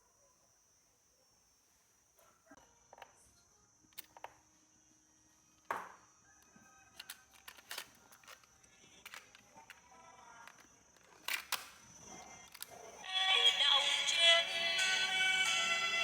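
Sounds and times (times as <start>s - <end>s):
faint music from tape: 0.0s - 16.0s.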